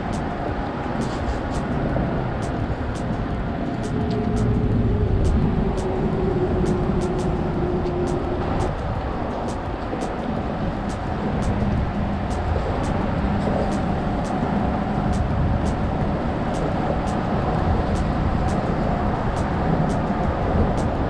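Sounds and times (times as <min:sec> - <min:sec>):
choppy water against rocks: 0:00.0 - 0:21.0
faint high ticks: 0:00.0 - 0:21.0
wind: 0:00.0 - 0:21.0.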